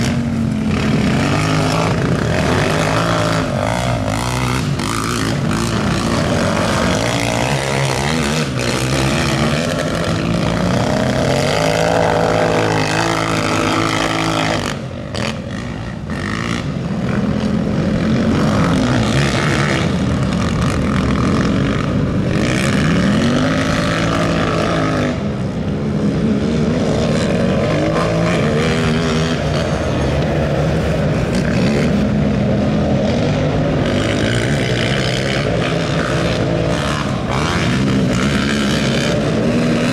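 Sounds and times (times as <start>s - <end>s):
racing quad engines revving: 0.0s - 39.9s.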